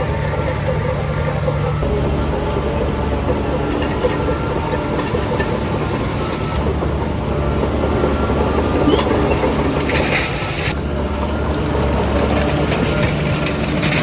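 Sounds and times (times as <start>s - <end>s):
bulldozer diesel engine: 0.0s - 14.0s
steel tracks clattering: 0.0s - 14.0s.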